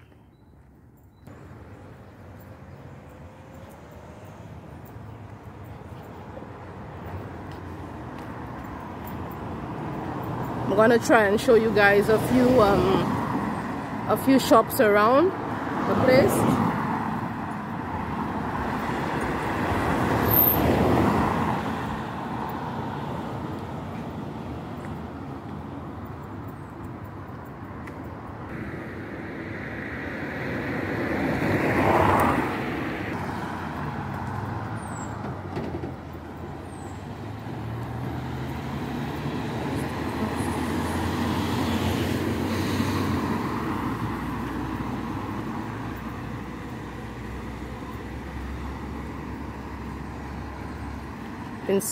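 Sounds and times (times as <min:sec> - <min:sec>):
cars passing by: 0:00.0 - 0:51.9.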